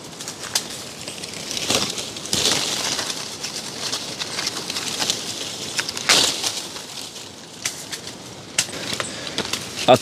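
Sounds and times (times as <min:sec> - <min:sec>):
leafy branches rustling: 0:00.0 - 0:10.0
twigs clicking: 0:00.0 - 0:10.0.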